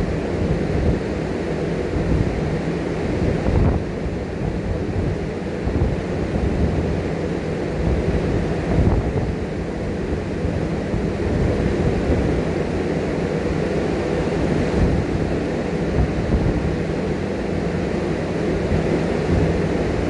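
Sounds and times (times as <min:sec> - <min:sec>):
sea waves washing: 0:00.0 - 0:20.0
wind buffeting microphone: 0:00.0 - 0:20.0.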